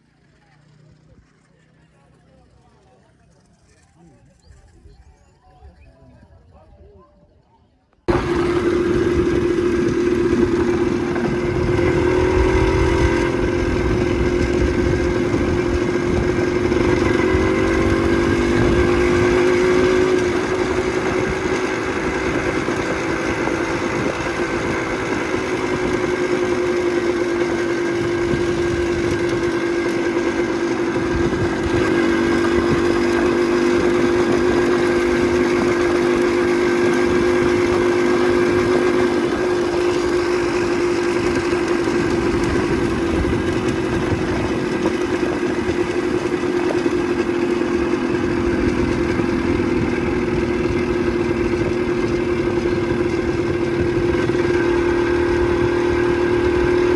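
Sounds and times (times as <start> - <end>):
motorcycle engine cruising: 0.0 - 5.9, 8.1 - 56.9
wind and road rumble: 8.1 - 56.9.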